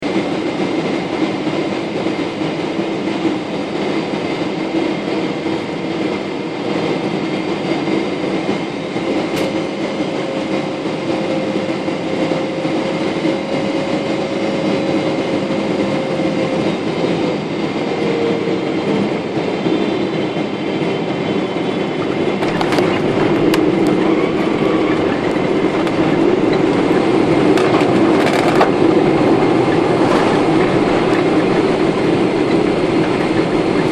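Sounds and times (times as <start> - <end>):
airplane cabin engine rush: 0.0 - 33.9.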